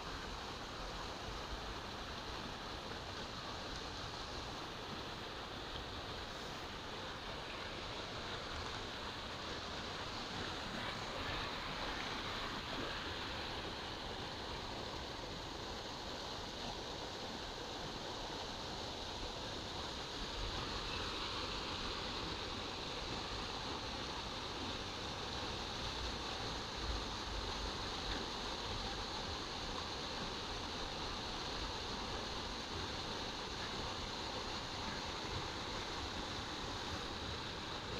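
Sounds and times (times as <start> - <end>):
outdoor ambient hiss: 0.0 - 37.9.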